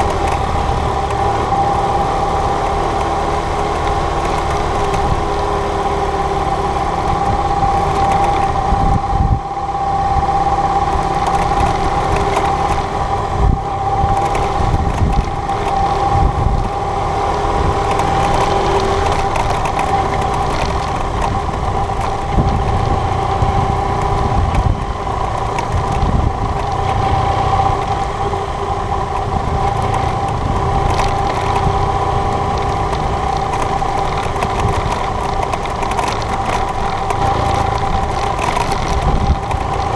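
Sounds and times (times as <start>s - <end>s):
motorcycle engine running: 0.0s - 39.9s
tyres rumbling on gravel: 0.0s - 39.9s.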